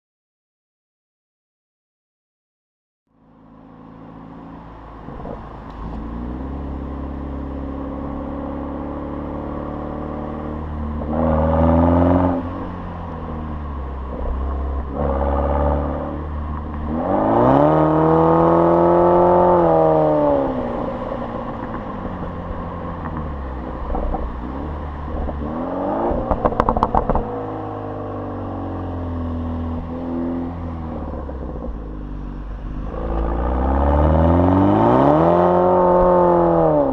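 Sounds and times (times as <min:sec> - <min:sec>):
car engine revving: 0:03.4 - 0:36.9.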